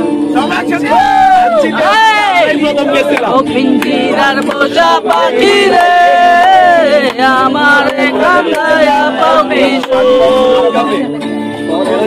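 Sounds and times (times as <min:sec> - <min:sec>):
men singing together: 0:00.4 - 0:12.0.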